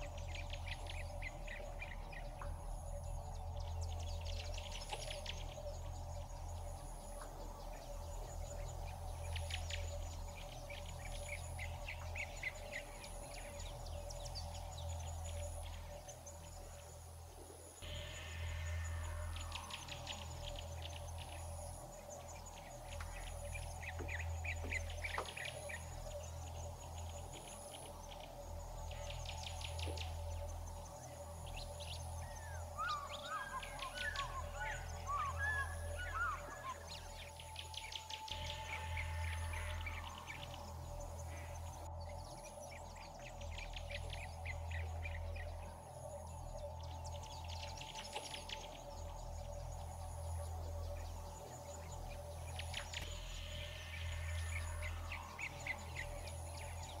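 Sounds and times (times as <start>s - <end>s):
insect chirping trills: 0.0s - 57.0s
steady low hum: 0.0s - 57.0s
twittering birdsong: 0.0s - 57.0s.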